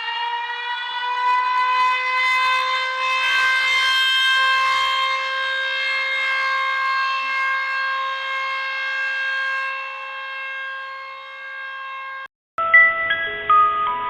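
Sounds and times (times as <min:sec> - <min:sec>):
siren-style alarm tone: 0:00.0 - 0:14.0.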